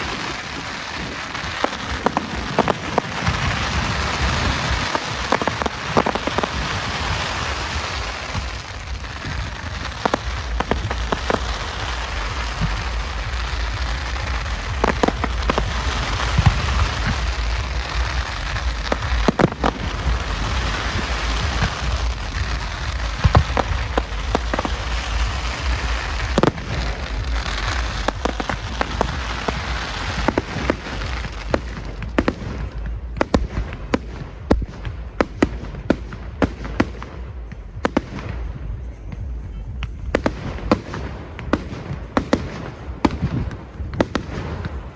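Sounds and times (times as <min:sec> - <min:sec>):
fireworks crackling: 0:00.0 - 0:44.9
fireworks pops and bangs: 0:00.0 - 0:44.9.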